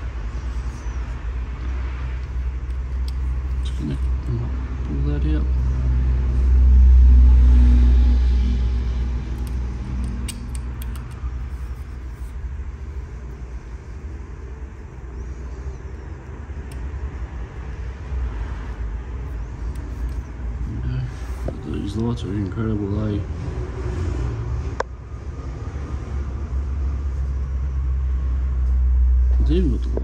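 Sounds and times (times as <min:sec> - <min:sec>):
low engine-like rumble: 0:00.0 - 0:30.0.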